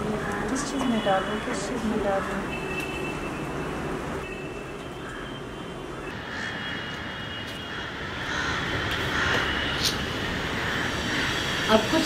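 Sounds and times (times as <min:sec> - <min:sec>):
distant city hum: 0:00.0 - 0:12.0.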